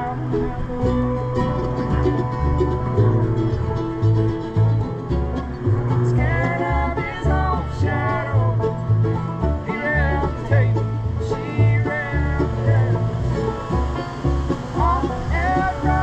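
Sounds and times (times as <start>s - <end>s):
banjo picking: 0.0s - 16.0s
bass line: 0.0s - 16.0s
guitar picking: 0.0s - 16.0s.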